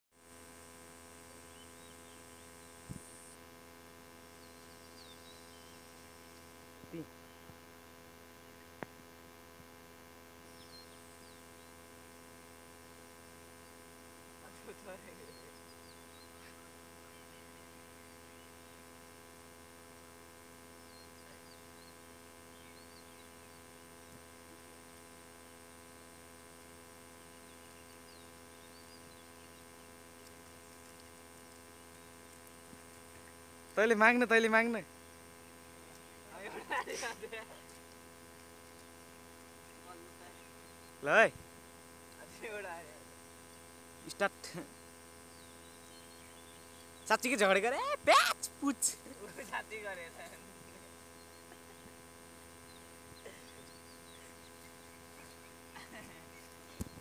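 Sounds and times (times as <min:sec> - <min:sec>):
electrical hum: 0:00.2 - 0:57.0.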